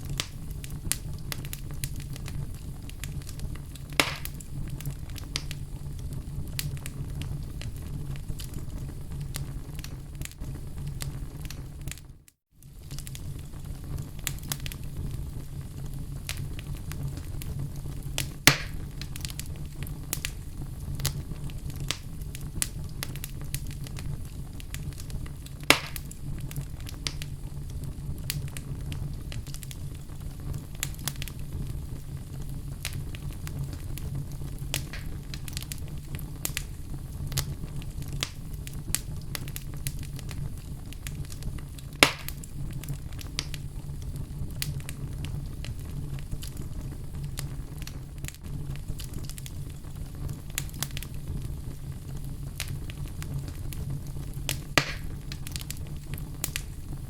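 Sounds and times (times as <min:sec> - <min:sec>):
fire rumbling and crackling: 0:00.0 - 0:57.0
sharp fire pops: 0:00.0 - 0:57.0.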